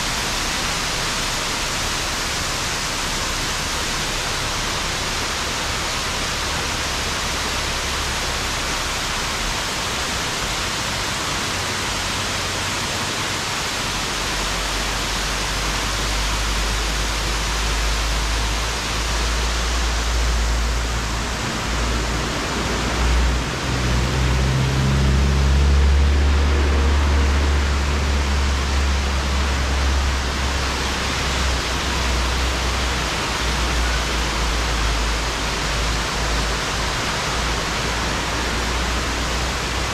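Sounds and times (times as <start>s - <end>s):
waterfall cascading down rock: 0.0s - 39.9s.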